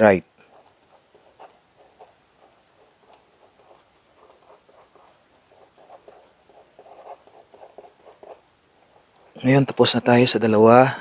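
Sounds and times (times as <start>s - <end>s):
marker scratching on paper: 0.4s - 9.6s.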